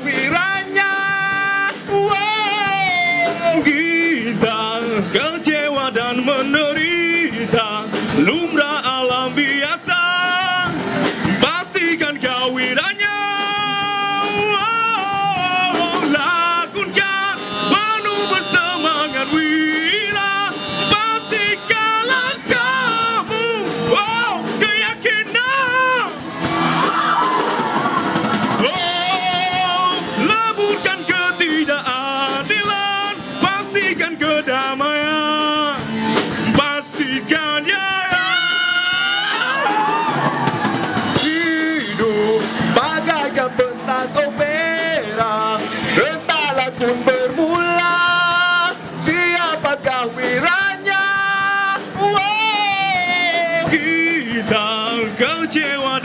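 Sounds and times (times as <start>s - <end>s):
male singer vocals: 0.0s - 26.2s, 28.5s - 40.2s, 41.0s - 56.0s
acoustic and electric guitars: 0.0s - 56.0s
drum kit: 0.0s - 56.0s.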